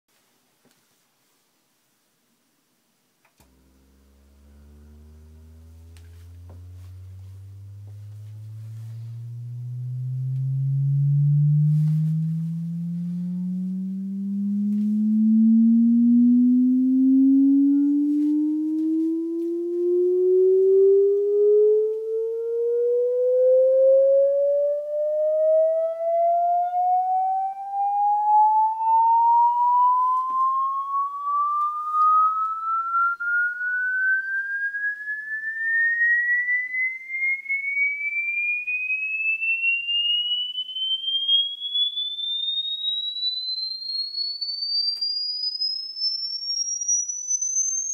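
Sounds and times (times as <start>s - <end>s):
rising sine-wave sweep tone: 3.3s - 47.9s.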